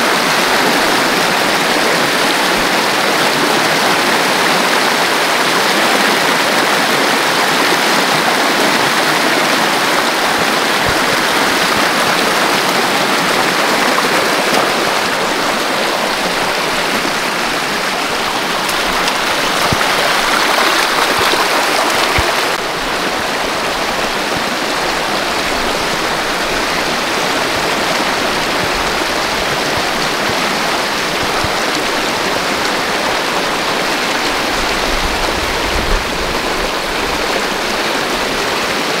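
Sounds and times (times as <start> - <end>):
creek rushing over rocks: 0.0 - 39.0.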